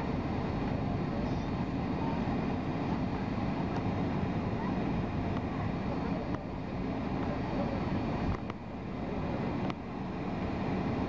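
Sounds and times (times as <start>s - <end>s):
jet airliner taxiing rumble: 0.0s - 11.0s.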